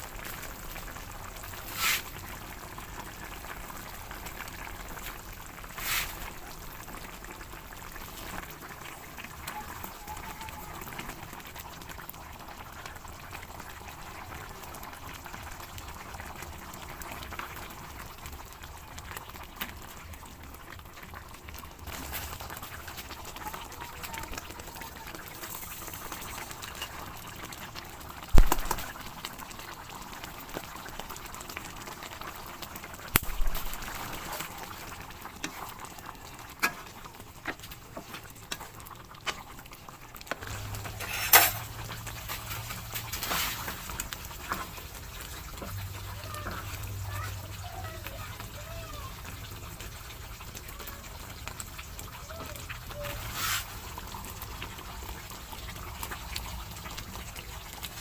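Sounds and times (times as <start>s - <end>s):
stew bubbling in a pot: 0.0s - 58.0s.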